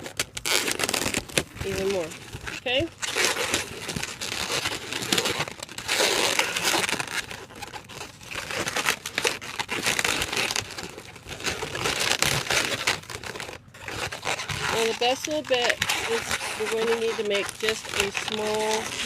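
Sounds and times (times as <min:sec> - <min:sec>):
balloon rubbing and crinkling: 0:00.0 - 0:19.0.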